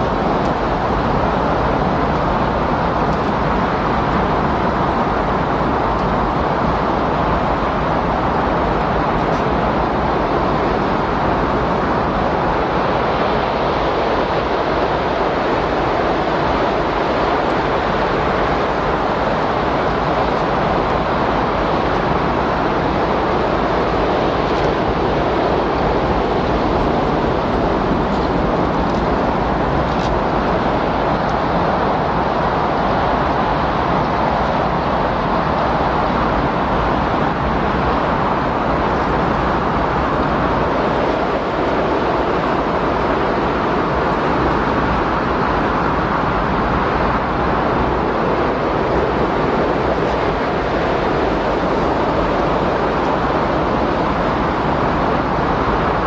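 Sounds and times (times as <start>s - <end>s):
loud blowing wind: 0.0s - 56.0s.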